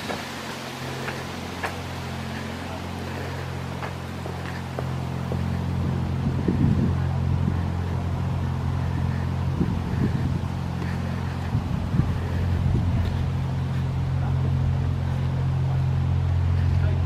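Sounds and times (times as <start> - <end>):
low engine drone: 0.0 - 17.0
soft footsteps on towpath: 0.0 - 17.0.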